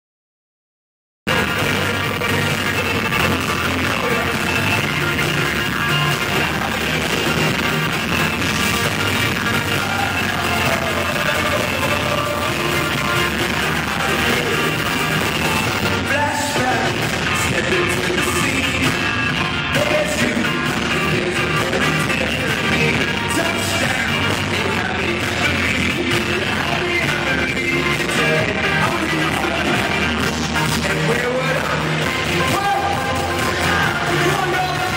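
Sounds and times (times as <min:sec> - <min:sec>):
live rock band playing: 0:01.3 - 0:34.9
person singing: 0:01.3 - 0:34.9.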